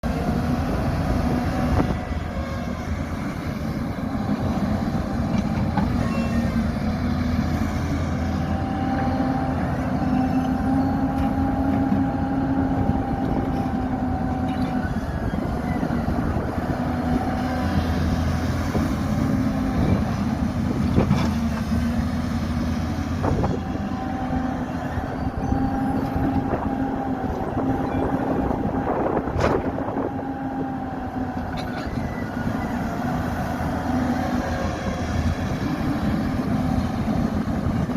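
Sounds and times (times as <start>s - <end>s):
excavator engine and hydraulics drone: 0.0s - 37.9s.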